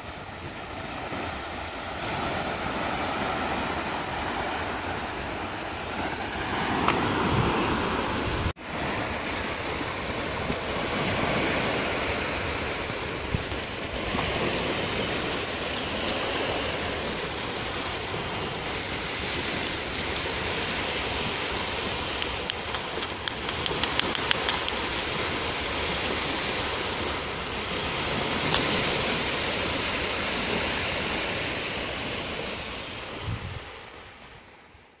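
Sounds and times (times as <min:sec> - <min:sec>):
wind buffeting microphone: 0:00.0 - 0:34.4
surf washing on beach: 0:00.0 - 0:35.0.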